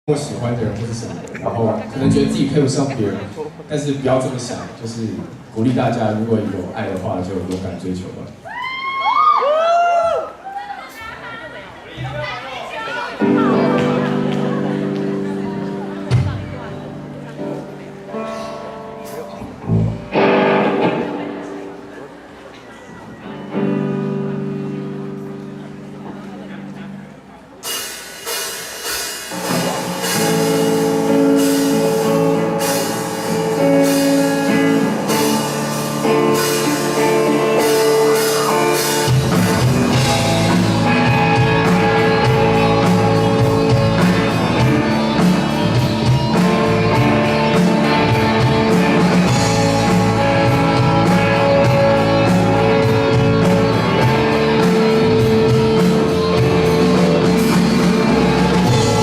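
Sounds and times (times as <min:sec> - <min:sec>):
live rock band playing: 0:00.1 - 0:04.5, 0:13.0 - 0:59.0.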